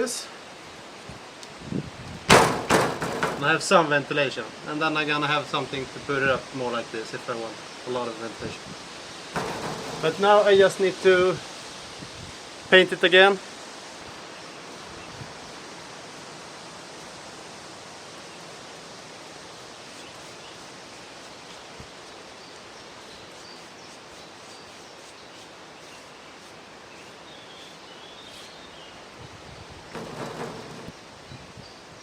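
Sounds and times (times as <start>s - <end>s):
outdoor hiss: 0.0s - 32.0s.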